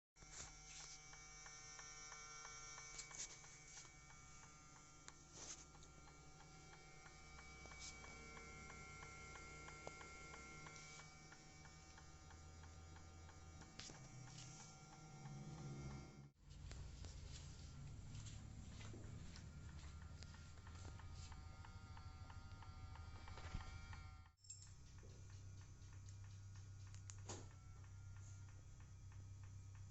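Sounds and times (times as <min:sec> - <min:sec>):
faint steady hum: 0:00.2 - 0:29.9.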